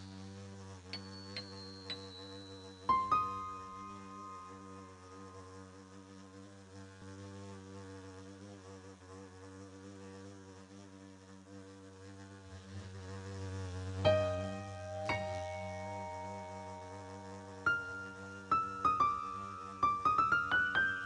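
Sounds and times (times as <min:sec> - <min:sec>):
housefly buzzing: 0:00.0 - 0:21.0.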